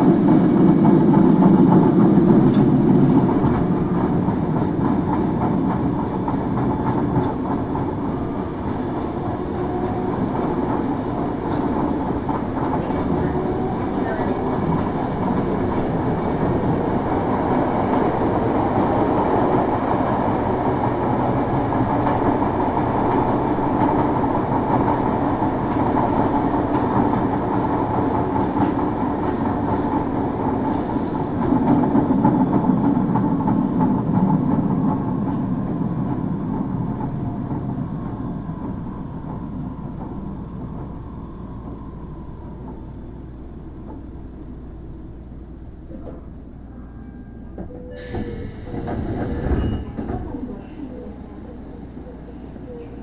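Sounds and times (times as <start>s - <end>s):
subway car rolling noise: 0.0s - 53.0s.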